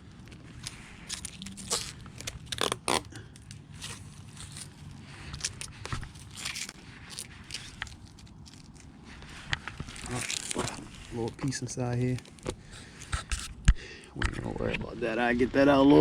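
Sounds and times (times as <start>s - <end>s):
plastic film peeling crackle: 0.2s - 13.6s.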